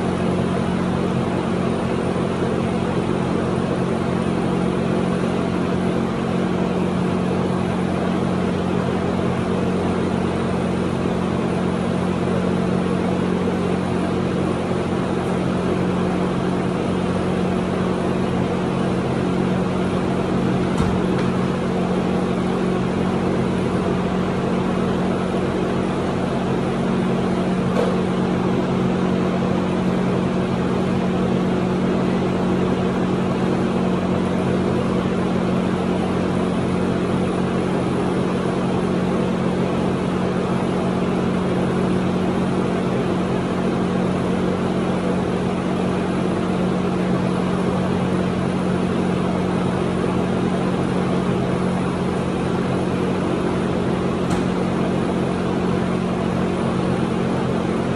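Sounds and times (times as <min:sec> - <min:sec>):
machine droning hum: 0:00.0 - 0:57.9.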